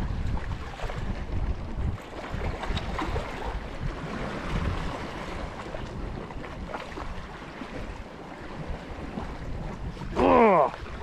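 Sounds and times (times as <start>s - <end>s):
sea water washing against rocks: 0.0s - 11.0s
wind buffeting microphone: 0.0s - 11.0s.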